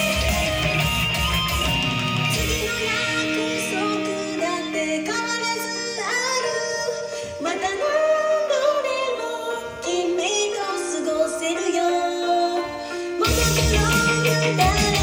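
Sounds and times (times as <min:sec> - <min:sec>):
backing track: 0:00.0 - 0:15.0
women singing pop song: 0:02.3 - 0:15.0.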